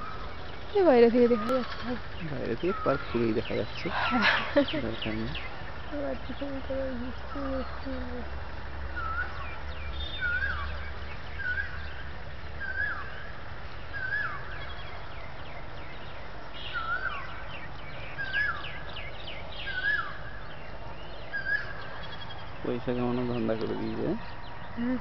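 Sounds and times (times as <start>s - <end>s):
bird calling: 0.0s - 25.0s.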